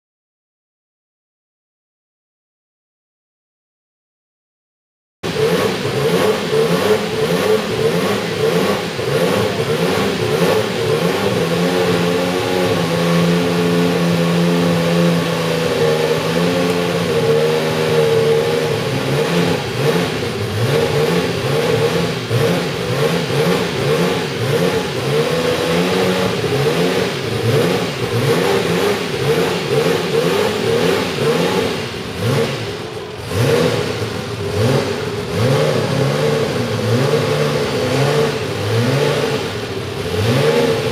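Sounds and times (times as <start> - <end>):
race car engine revving: 5.2 - 40.9.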